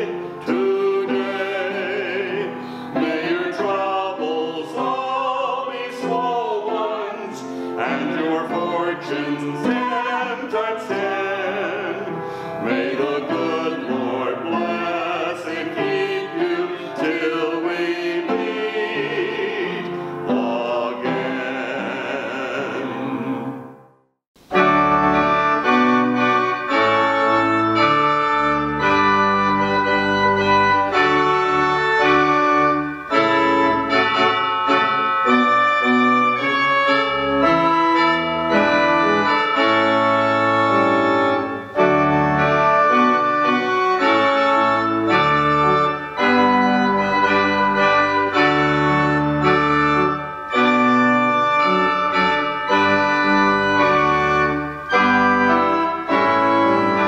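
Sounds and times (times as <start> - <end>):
organ playing sustained chords: 0.0 - 23.6, 24.4 - 57.0.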